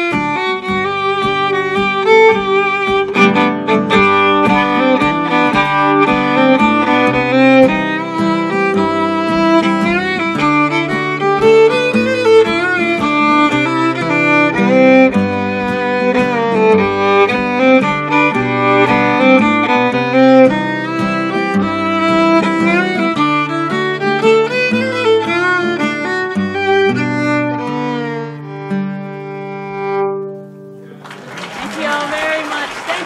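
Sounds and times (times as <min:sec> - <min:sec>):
acoustic guitar strumming: 0:00.0 - 0:31.0
fiddle melody: 0:00.0 - 0:31.1.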